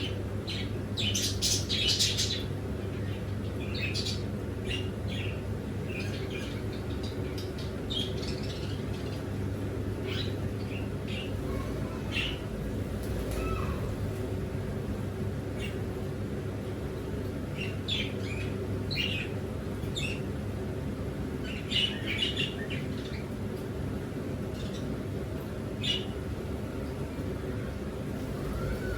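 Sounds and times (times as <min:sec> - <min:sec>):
small birds chirping: 0:00.0 - 0:28.9
steady low hum: 0:00.0 - 0:28.9.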